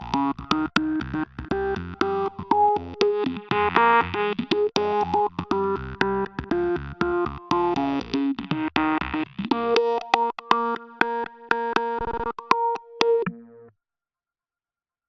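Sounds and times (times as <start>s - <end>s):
electronic synthesizer music: 0.0s - 13.7s.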